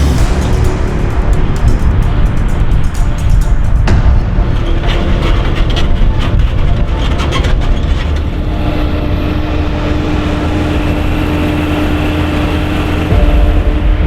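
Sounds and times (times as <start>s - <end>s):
steady whine: 0.0s - 14.0s
tractor diesel engine rumbling: 0.0s - 14.0s.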